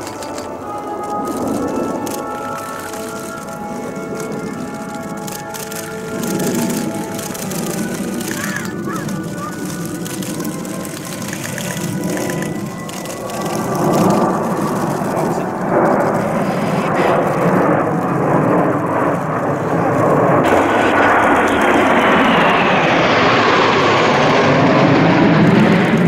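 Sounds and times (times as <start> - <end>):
jets flying past overhead: 0.0 - 26.0.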